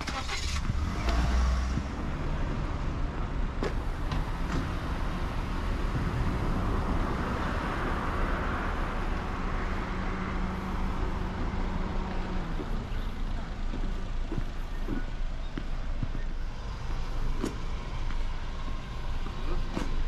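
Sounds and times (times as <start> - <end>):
cars moving: 0.0 - 20.0
low engine hum: 0.0 - 20.0.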